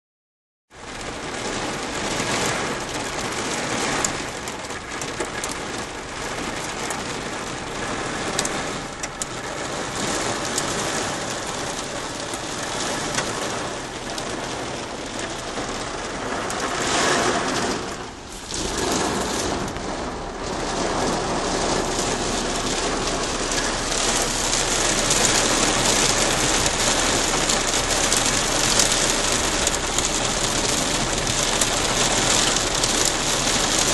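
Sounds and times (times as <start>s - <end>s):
heavy rain drumming on car roof: 0.8s - 33.9s.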